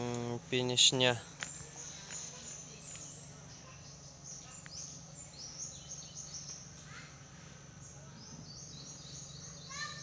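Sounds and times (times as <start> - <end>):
low steady hum: 0.0 - 10.0
small birds chirping: 0.0 - 10.0.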